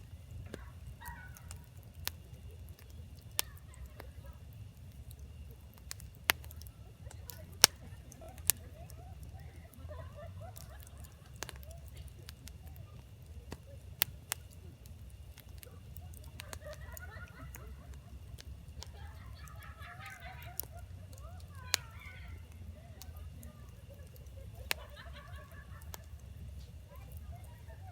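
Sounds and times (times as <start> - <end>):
campfire crackling and popping: 0.0 - 27.9
low steady rumble: 0.0 - 27.9.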